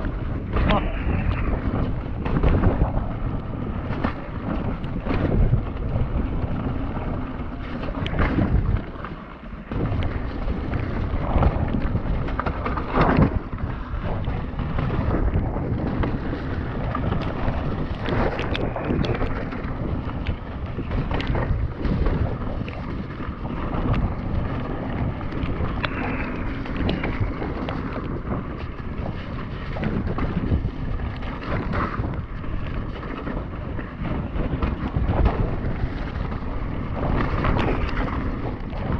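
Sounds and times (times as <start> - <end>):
bike knocks and rattles: 0.0 - 38.9
wind rushing over microphone: 0.0 - 38.9.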